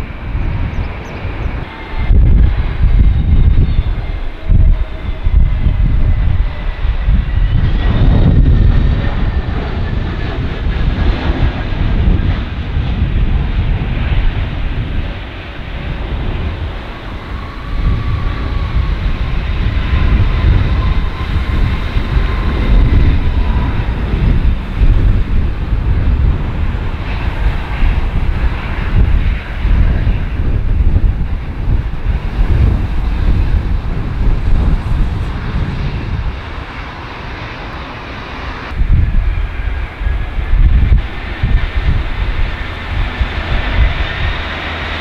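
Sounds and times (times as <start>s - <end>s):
jet engine whine: 0.0s - 45.0s
wind buffeting microphone: 0.0s - 45.0s.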